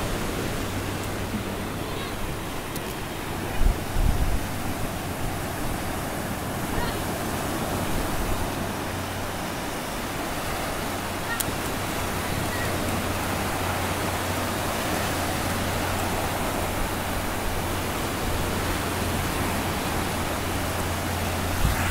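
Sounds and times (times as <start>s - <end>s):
waves breaking on a beach: 0.0s - 21.9s.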